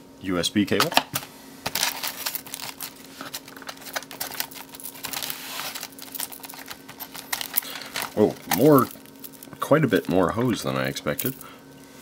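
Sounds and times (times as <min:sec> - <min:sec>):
faint steady hum: 0:00.0 - 0:12.0
packaging rustle: 0:01.6 - 0:11.4.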